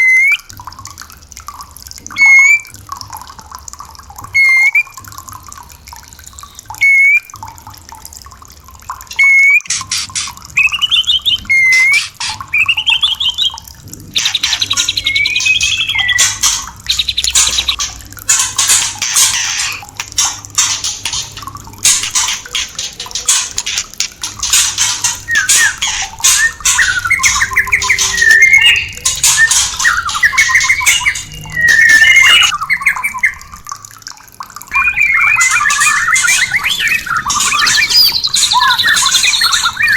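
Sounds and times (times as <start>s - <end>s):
bird whistling and warbling: 0.0s - 0.5s, 2.1s - 2.7s, 4.3s - 5.0s, 6.3s - 7.4s, 9.1s - 33.6s, 34.7s - 39.9s.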